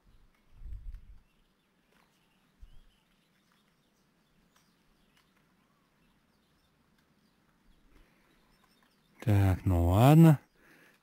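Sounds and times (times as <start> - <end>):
distant bird chirps: 0.0 - 11.0.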